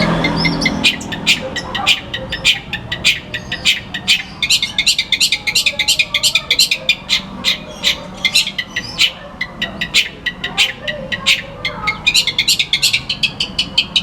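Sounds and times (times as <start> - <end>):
bird chattering song: 0.0 - 14.0.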